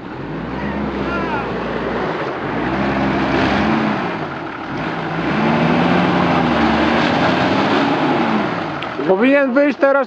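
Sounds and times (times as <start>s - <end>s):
wheels churning mud: 0.0s - 10.0s
engine revving hard: 0.1s - 9.2s.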